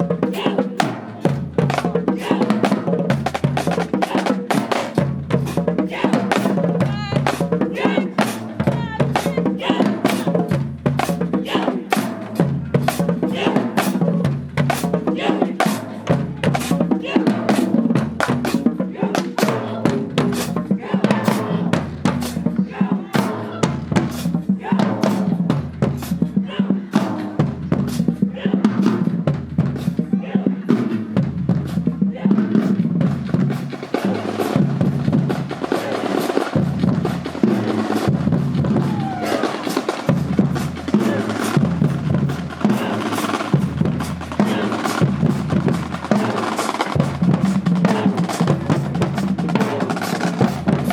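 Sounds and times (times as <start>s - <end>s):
marching band playing: 0.0s - 50.9s
snare and bass drum strokes: 0.0s - 50.9s.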